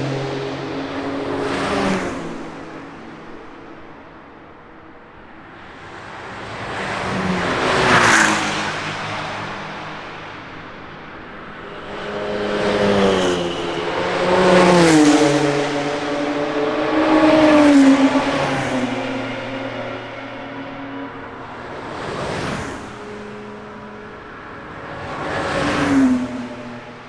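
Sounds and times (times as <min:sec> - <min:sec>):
racing cars passing by: 0:00.0 - 0:27.0.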